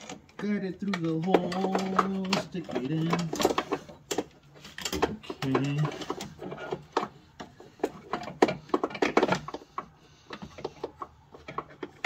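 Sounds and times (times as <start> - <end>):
metal parts clicking and knocking: 0.0 - 12.0.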